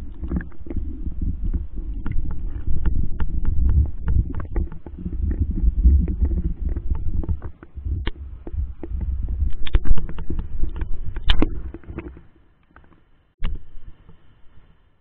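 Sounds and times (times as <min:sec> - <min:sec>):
muffled underwater rumble: 0:00.0 - 0:14.6.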